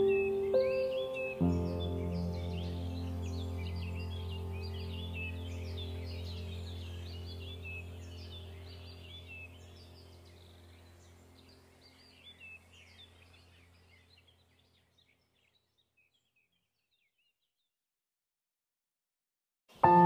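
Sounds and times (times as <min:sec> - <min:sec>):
birds chirping: 0:00.0 - 0:17.6.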